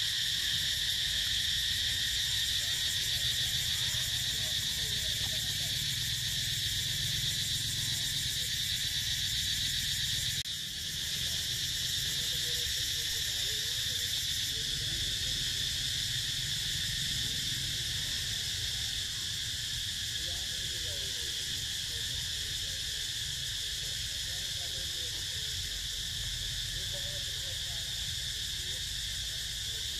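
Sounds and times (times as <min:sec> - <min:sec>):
insects chirping chorus: 0:00.0 - 0:29.9.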